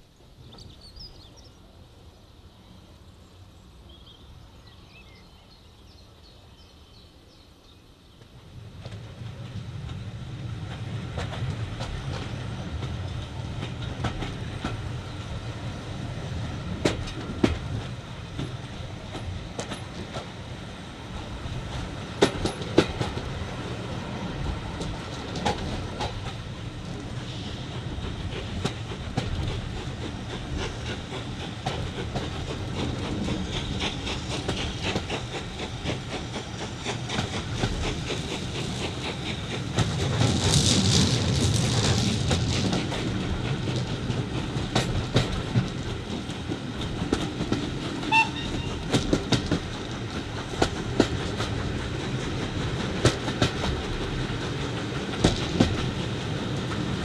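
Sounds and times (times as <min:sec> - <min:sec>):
train coaches rumbling: 0:00.0 - 0:57.0
wheels clacking over rail joints: 0:08.2 - 0:57.0.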